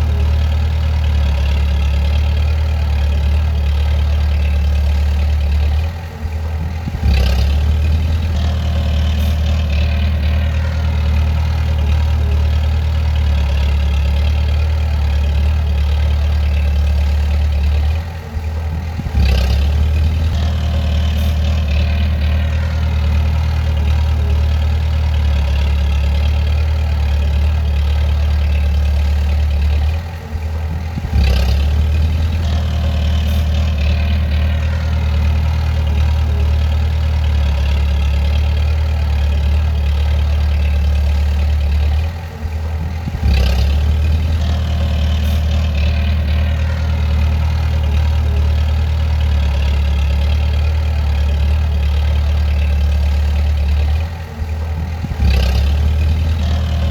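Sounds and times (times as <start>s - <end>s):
bulldozer diesel engine droning: 0.0s - 56.9s
engine knock: 0.0s - 56.9s.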